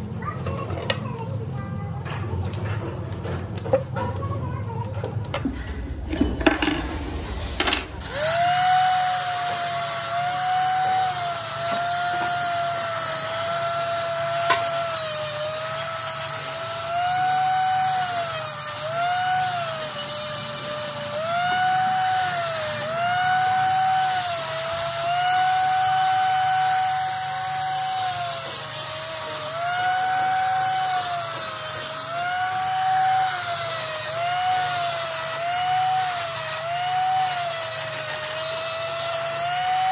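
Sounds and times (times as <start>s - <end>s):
die grinder grinding metal: 0.0s - 39.9s.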